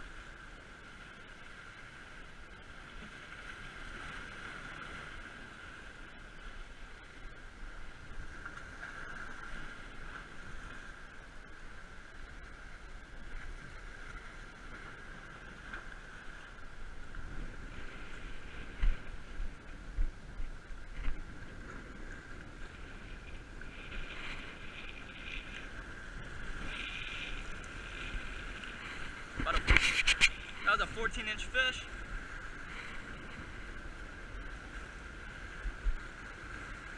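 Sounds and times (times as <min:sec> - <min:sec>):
waves on rocks: 0:00.0 - 0:36.9.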